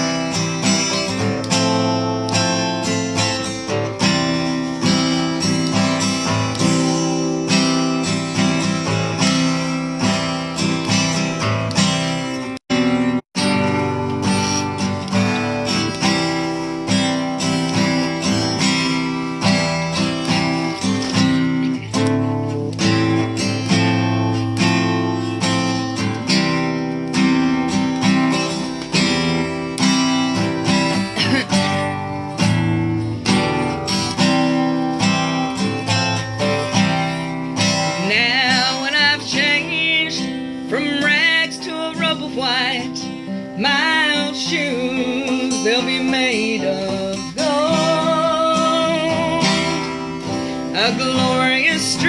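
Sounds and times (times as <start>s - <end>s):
acoustic guitar strumming chords: 0.0s - 52.0s.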